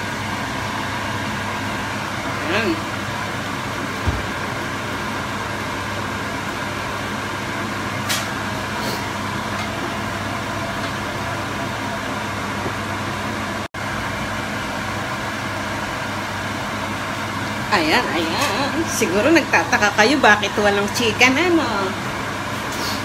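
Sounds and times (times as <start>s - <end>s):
food frying in a pan: 0.0s - 23.0s.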